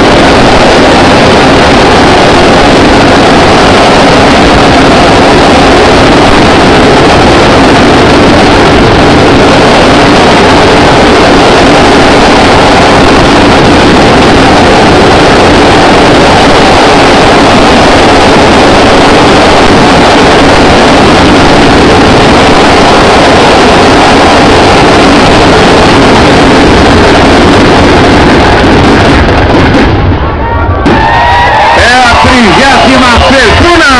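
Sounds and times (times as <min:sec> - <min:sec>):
loud rushing noise with rumble: 0:00.0 - 0:33.9.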